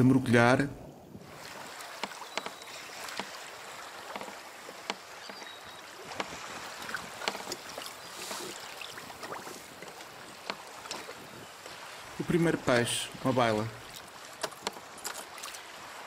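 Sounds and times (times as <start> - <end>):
water splashing against kayak hull: 1.2 - 16.0.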